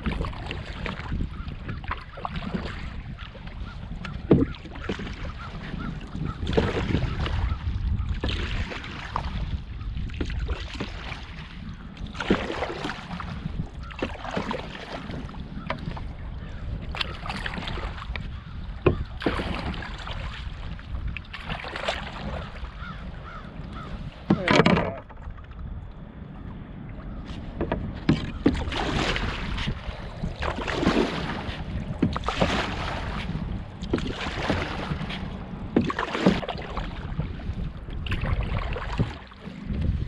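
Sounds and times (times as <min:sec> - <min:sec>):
paddle strokes swishing in water: 0:00.0 - 0:40.0
wind rumble on microphone: 0:00.0 - 0:40.0.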